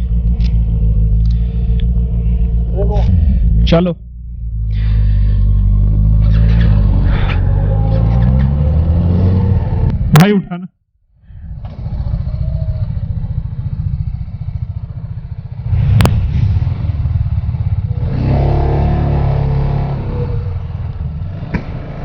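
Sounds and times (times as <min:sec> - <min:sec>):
motorcycle engine running: 0:00.0 - 0:10.1, 0:11.3 - 0:22.0.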